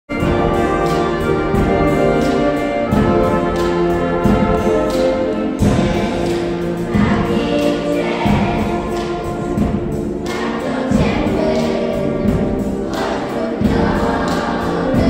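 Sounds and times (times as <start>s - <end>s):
brass band playing chords: 0.1s - 15.0s
children's choir singing: 0.1s - 15.0s.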